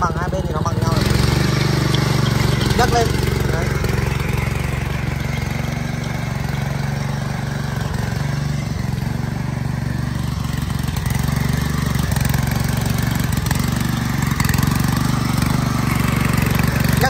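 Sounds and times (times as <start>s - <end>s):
tiller engine running: 0.0s - 17.0s
tines churning soil: 0.0s - 17.0s.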